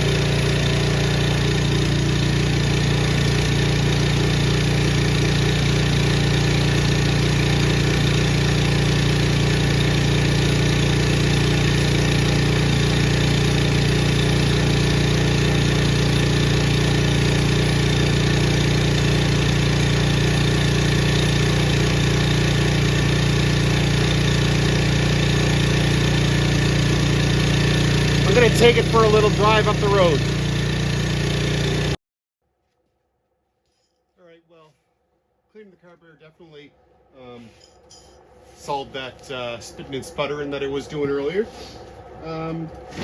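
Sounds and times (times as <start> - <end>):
snowblower engine running steadily: 0.0 - 32.0, 38.7 - 43.0.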